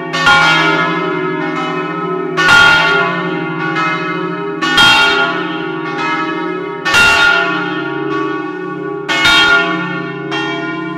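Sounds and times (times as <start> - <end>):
large church bells pealing: 0.0 - 10.9.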